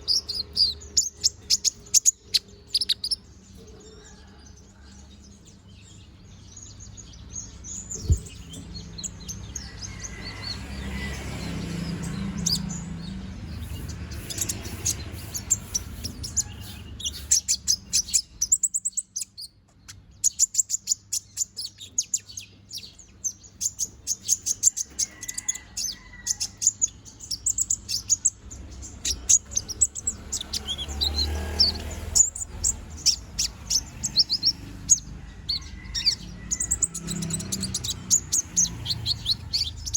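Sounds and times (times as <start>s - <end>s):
bird singing rapid chirps and trills: 0.0s - 39.9s.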